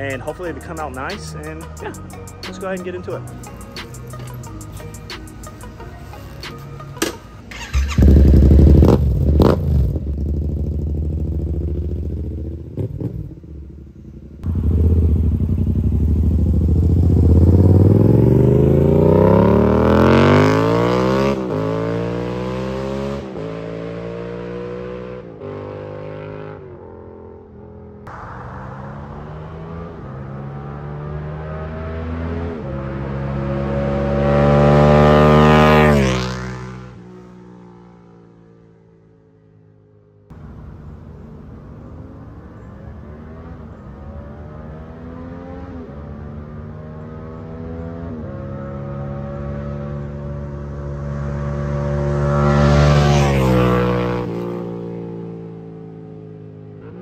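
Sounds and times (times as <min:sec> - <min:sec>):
motorcycle engine flyby: 0:07.5 - 0:39.8, 0:42.5 - 0:57.0.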